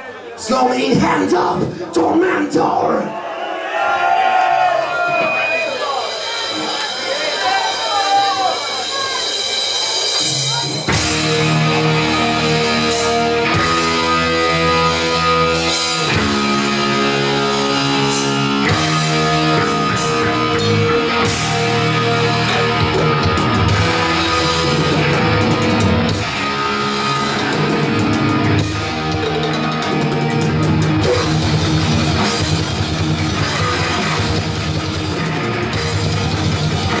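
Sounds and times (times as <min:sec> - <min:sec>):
drum kit: 0:04.8 - 0:37.0
electric guitars: 0:06.1 - 0:37.0.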